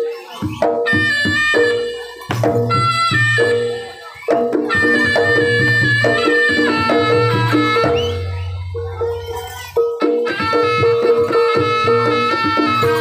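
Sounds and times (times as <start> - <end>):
drums and percussion: 0.0 - 13.0.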